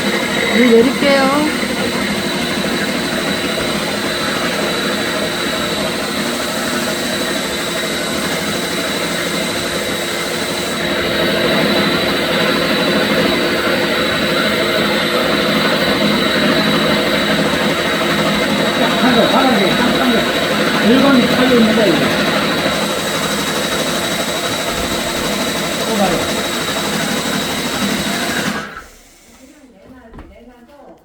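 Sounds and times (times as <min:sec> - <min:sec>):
drain-cleaning machine whining: 0:00.0 - 0:29.7.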